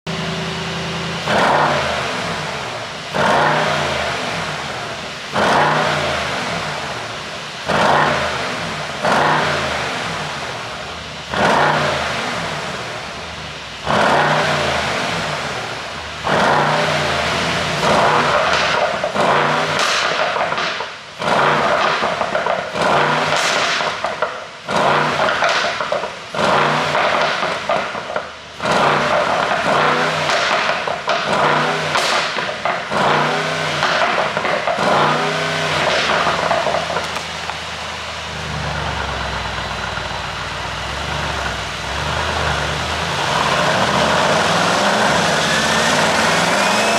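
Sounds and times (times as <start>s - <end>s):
car engine revving: 0.0s - 46.9s
exhaust crackles and pops: 0.1s - 46.9s.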